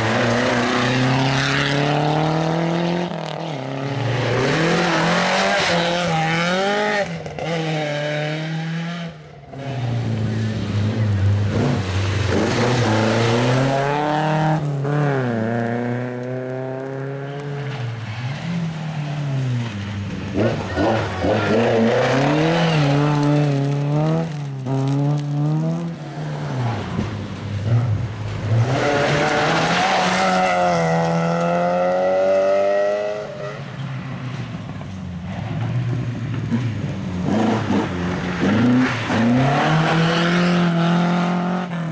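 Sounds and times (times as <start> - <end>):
rally car engines at full throttle: 0.0 - 41.9.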